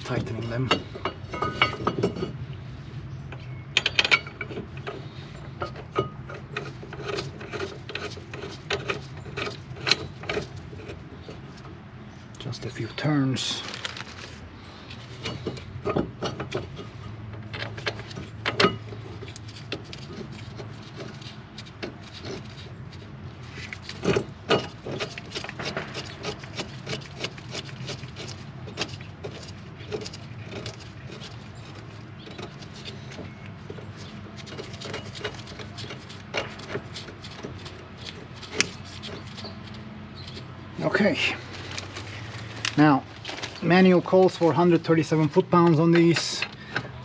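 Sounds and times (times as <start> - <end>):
metallic clicks and scraping of bolts: 0.0 - 2.4, 3.3 - 11.8, 14.8 - 42.8, 43.4 - 47.0.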